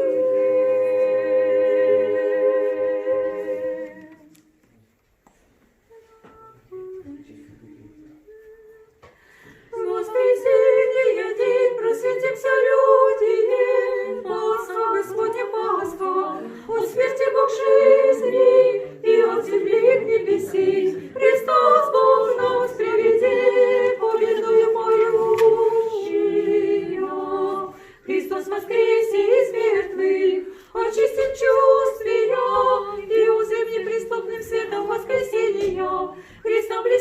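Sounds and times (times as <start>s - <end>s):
choir singing a cappella: 0.0s - 4.6s, 5.9s - 37.0s.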